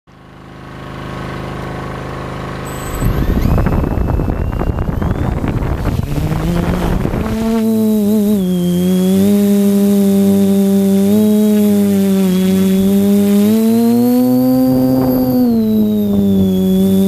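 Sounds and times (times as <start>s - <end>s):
drone propellers buzzing: 2.7s - 17.0s.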